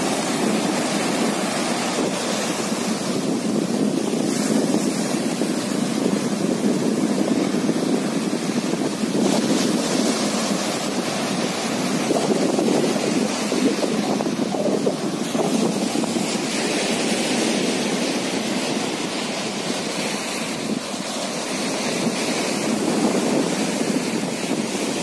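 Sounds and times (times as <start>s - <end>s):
waves washing up a beach: 0.0s - 25.0s
wind buffeting microphone: 0.0s - 25.0s.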